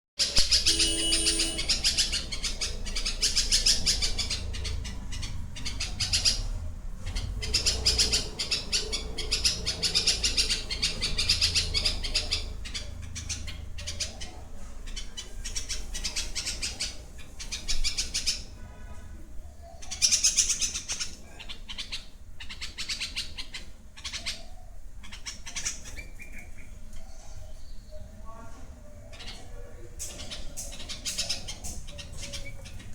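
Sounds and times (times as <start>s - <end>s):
birds chirping and squawking: 0.2s - 32.9s.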